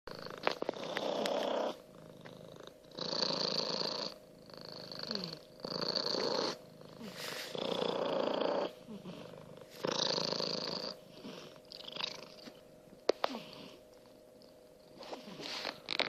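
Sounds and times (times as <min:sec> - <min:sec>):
cat purring loudly: 0:00.1 - 0:16.0.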